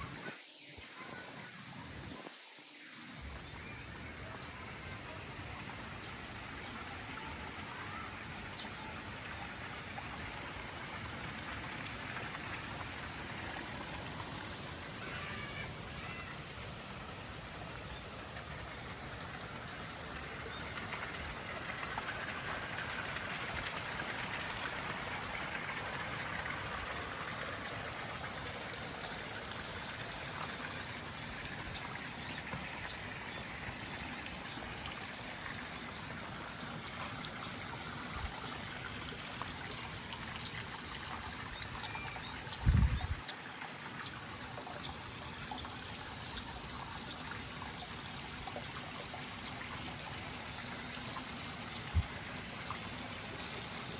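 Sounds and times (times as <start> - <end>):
water trickling: 3.0 - 53.9.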